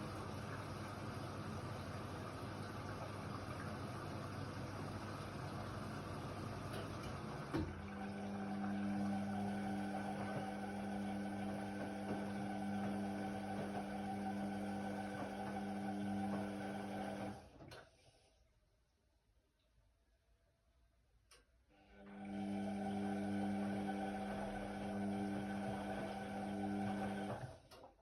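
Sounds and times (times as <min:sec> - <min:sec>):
washer-dryer humming: 0:00.0 - 0:18.0, 0:21.9 - 0:28.0.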